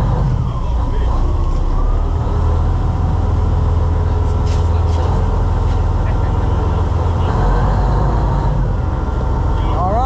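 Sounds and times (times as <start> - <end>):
boat engines droning: 0.0 - 10.0.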